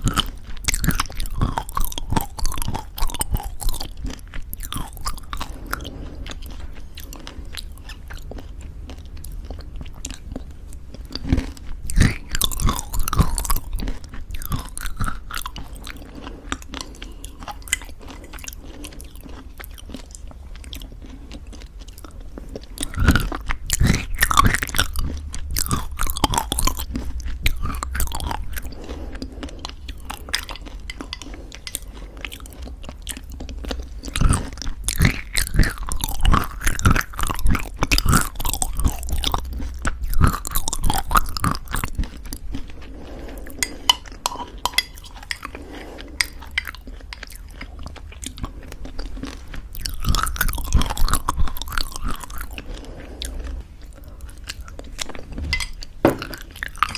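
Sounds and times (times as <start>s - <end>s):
granola crunching while chewing: 0.0s - 56.9s
wet mouth sounds: 0.0s - 56.9s.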